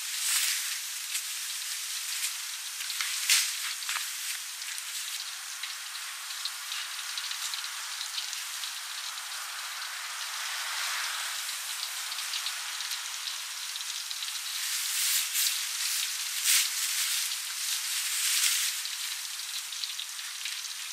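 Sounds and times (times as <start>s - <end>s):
meat deep-frying in hot oil: 0.0s - 20.9s.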